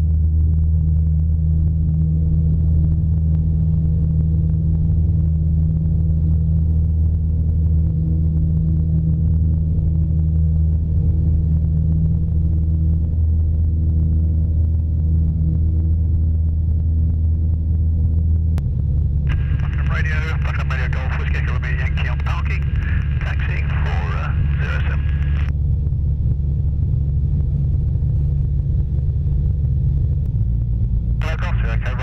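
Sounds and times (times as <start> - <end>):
aircraft engine drone in cabin: 0.0 - 32.0.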